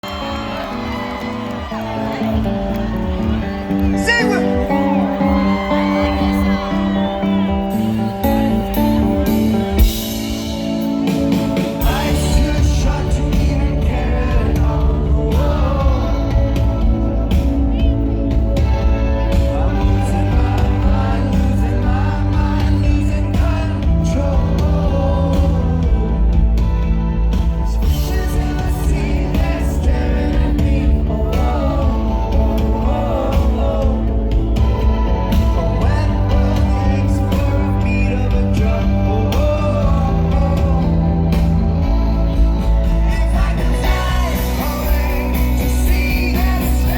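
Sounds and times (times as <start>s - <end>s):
live rock band: 0.0s - 46.9s
heavy bass: 1.4s - 46.9s
man singing lead vocal: 3.8s - 46.9s.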